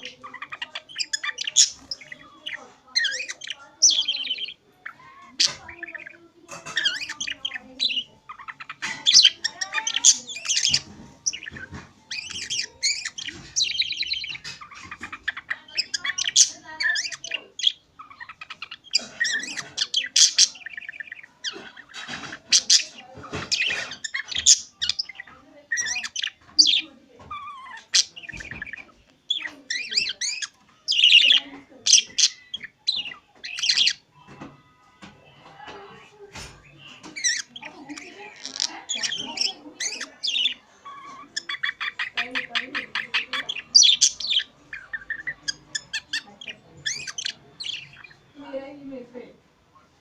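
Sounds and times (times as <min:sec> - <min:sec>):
budgie chattering: 0:00.0 - 0:48.7.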